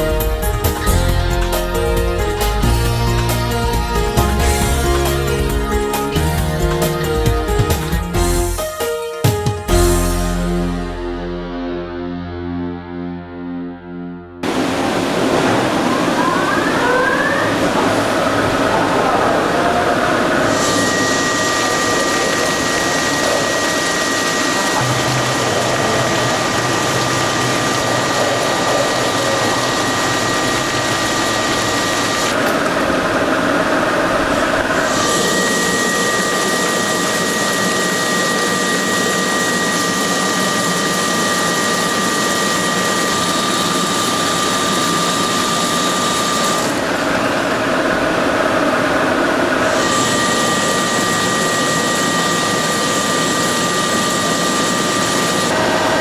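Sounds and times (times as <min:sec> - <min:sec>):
lathe machining noise: 0:00.0 - 0:08.7, 0:14.4 - 0:56.0.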